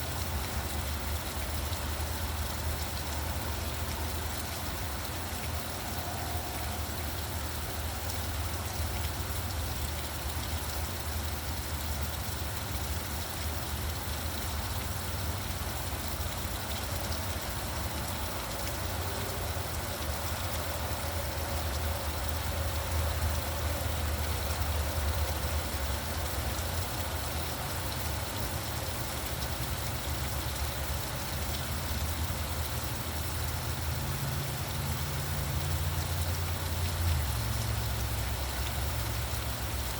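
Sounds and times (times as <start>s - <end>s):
low rumble of traffic: 0.0s - 39.9s
steady rain falling: 0.0s - 39.9s.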